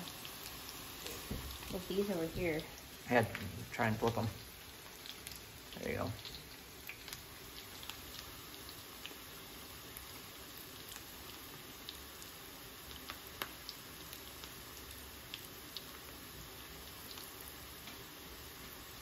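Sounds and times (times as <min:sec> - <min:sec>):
mushrooms sizzling in hot oil: 0:00.0 - 0:19.0.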